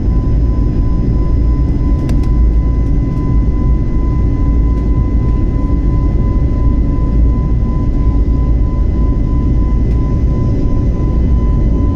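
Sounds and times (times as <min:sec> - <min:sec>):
thin steady whine: 0:00.0 - 0:11.9.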